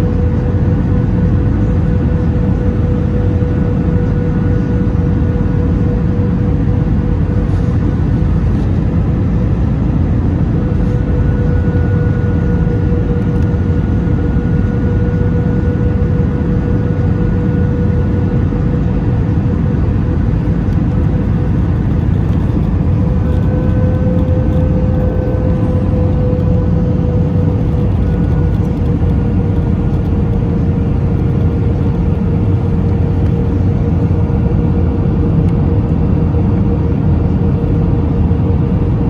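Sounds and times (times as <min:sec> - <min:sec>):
jet engines rumbling: 0:00.0 - 0:39.0
thin steady whine: 0:00.0 - 0:39.0.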